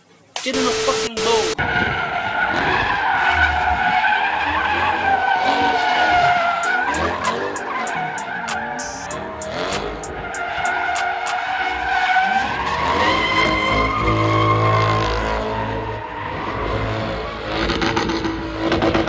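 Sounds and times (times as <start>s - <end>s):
tyres squealing on asphalt: 1.6s - 19.0s
car engine revving high: 1.9s - 19.0s.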